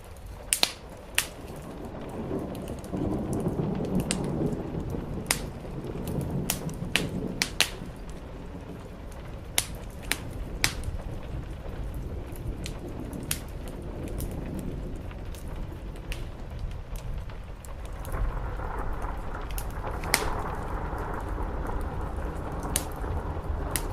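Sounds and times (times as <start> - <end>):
low rumble: 0.0 - 23.9
rain on a roof: 0.0 - 23.9
sharp fire pops: 0.0 - 23.9
wood fire crackling: 0.0 - 23.9.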